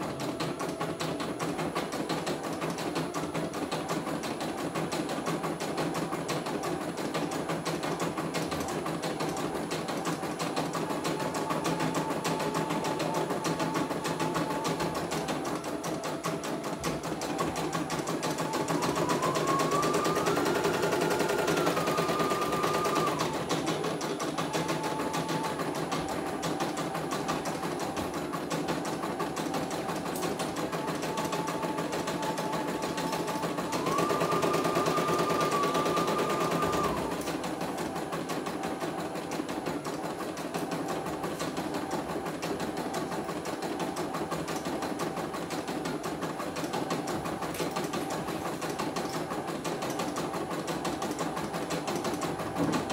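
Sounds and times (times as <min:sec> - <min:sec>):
embroidery machine stitching: 0:00.0 - 0:52.9.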